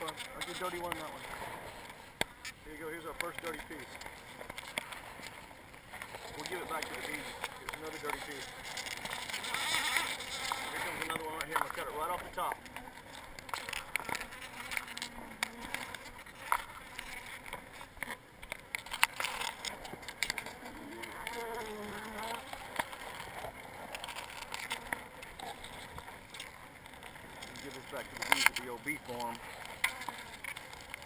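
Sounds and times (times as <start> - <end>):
bees buzzing: 0.0 - 31.0
honeycomb clicks and crackles: 0.0 - 31.0.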